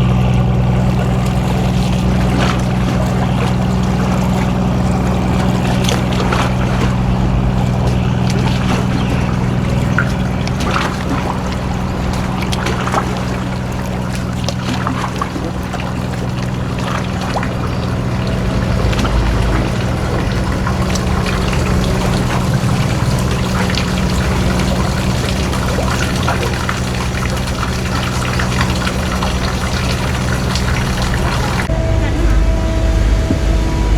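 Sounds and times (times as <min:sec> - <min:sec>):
boat engine humming: 0:00.0 - 0:33.9
water splashing and trickling: 0:00.0 - 0:33.9.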